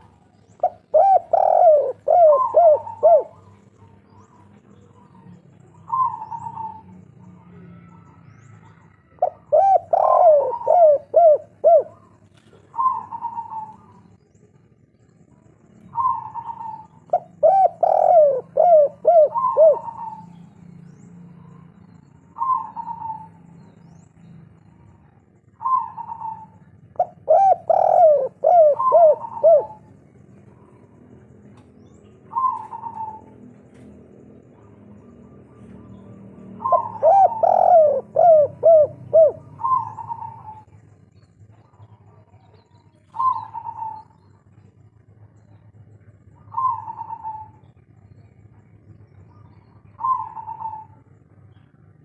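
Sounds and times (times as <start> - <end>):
dove cooing: 0.0 - 14.7, 15.8 - 20.6, 21.3 - 23.9, 24.9 - 40.8, 41.5 - 44.6, 45.2 - 52.0.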